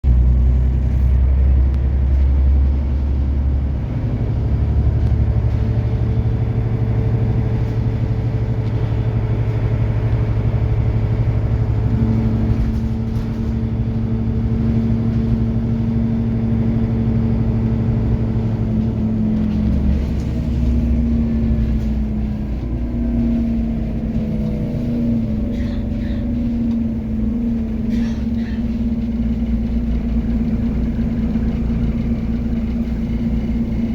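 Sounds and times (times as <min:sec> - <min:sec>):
bus engine drone: 0:00.0 - 0:33.9.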